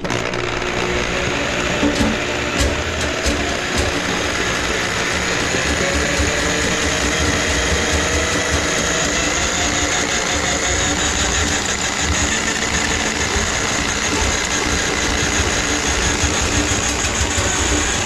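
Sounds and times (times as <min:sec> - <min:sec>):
drain-cleaning machine motor: 0:00.0 - 0:18.0.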